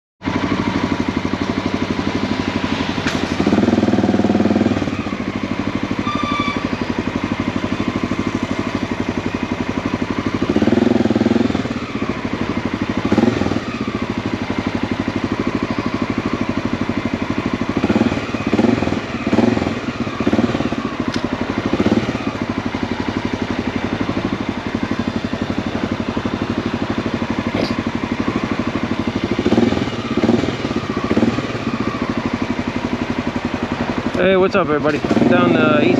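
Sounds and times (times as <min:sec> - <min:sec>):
motorcycle engine running: 0:00.2 - 0:35.9.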